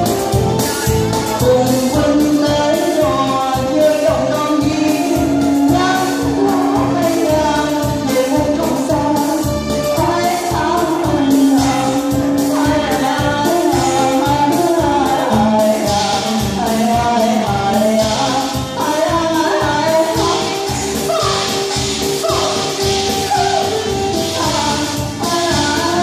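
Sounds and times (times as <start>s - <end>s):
music with singing: 0.0s - 26.0s.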